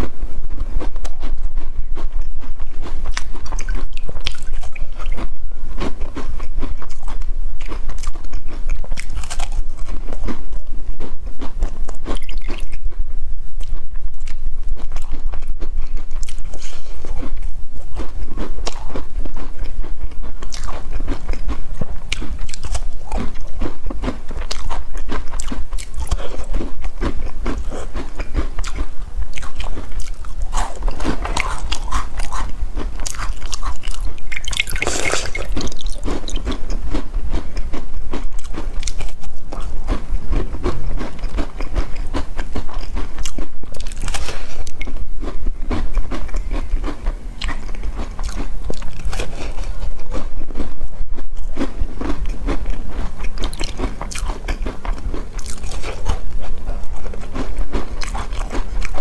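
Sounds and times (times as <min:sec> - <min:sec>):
crunching and chewing toast: 0:00.0 - 0:59.0.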